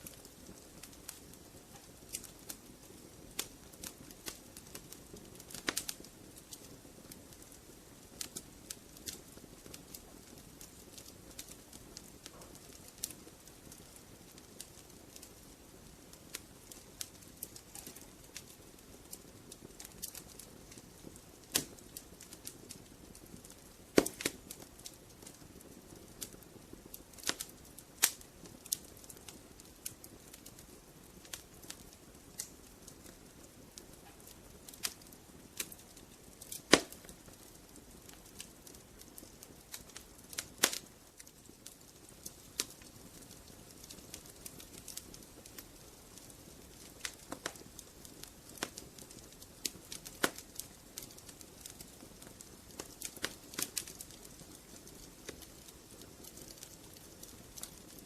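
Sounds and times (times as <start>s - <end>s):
fire hissing: 0.0s - 58.0s
logs crackling and popping: 0.0s - 58.0s.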